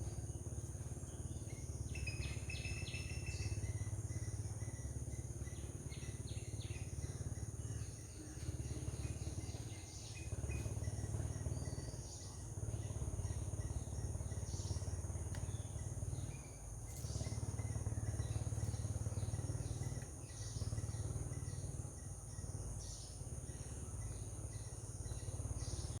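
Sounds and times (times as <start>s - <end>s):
bird chirps: 0.0s - 26.0s
insect drone: 0.0s - 26.0s.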